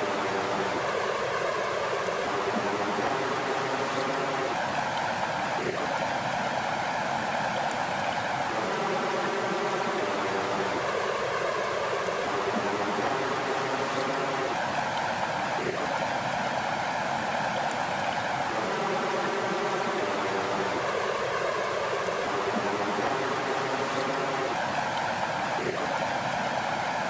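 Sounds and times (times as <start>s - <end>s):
water flowing: 0.0s - 27.0s.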